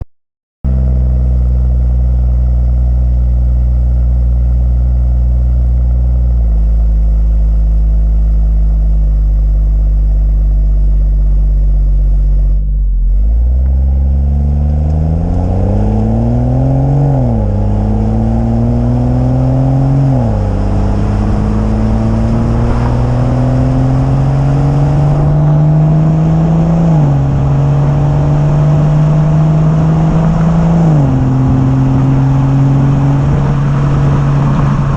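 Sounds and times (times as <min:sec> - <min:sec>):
car engine accelerating: 0:00.7 - 0:34.9.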